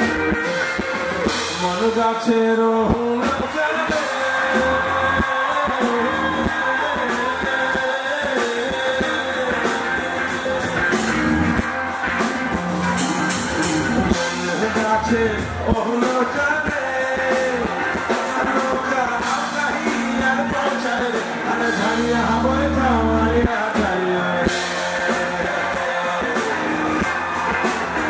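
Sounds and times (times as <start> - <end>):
live rock-pop band: 0.0 - 28.0
man singing: 1.2 - 11.0, 14.0 - 27.6.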